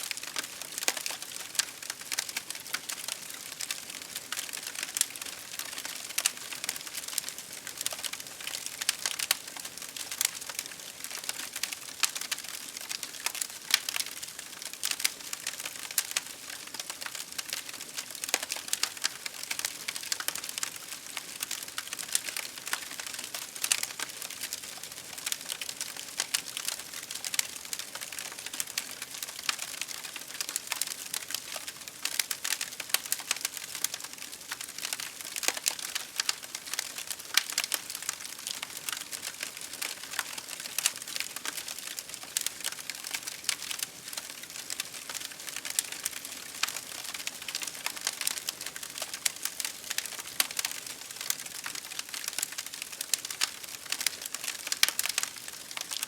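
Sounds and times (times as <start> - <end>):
campfire crackling: 0.1 - 56.0.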